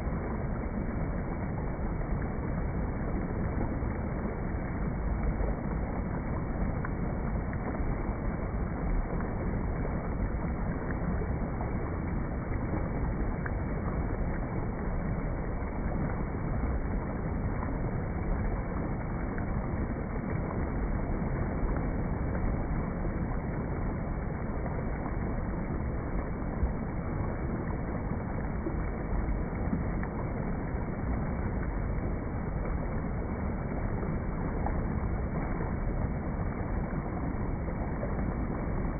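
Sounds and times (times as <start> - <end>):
steady soft rain: 0.0 - 38.9.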